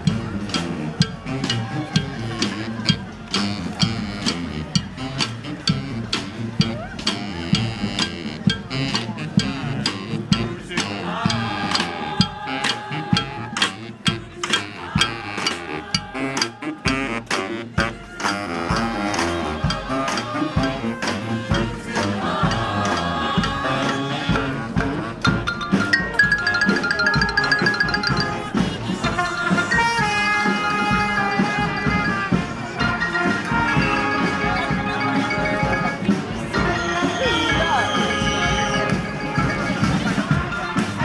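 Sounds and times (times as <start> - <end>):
horns playing melody: 0.0 - 41.0
marching band drum strokes: 0.0 - 41.0.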